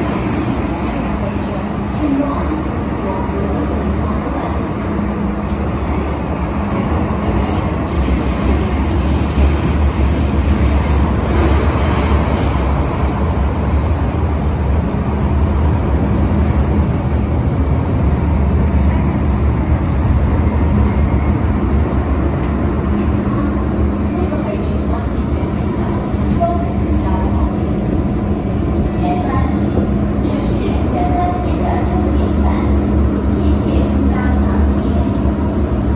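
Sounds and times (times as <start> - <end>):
train wheels rumbling on track: 0.0 - 35.9.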